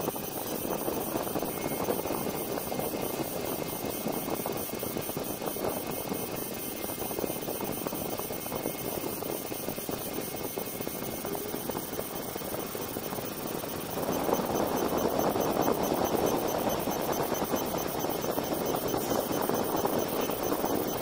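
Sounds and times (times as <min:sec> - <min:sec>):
laser marking machine humming: 0:00.0 - 0:21.0.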